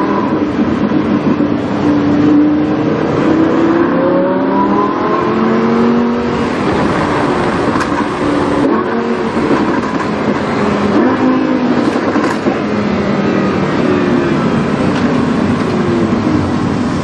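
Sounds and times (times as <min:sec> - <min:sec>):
car engine running: 0:00.0 - 0:04.4, 0:05.2 - 0:17.0.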